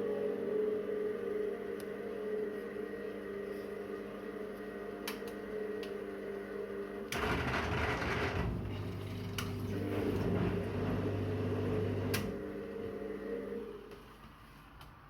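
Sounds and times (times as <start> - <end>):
washing machine motor hum: 0.0 - 14.7.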